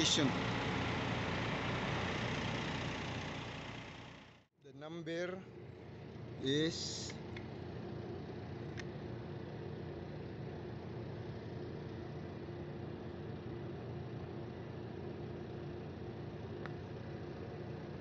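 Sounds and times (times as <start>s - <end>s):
engine idling: 0.0s - 4.5s, 5.2s - 18.0s.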